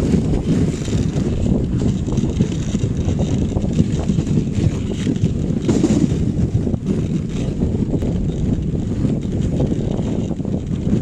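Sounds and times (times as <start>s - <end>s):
sled sliding across snow: 0.0s - 11.0s
wind buffeting microphone: 0.0s - 11.0s.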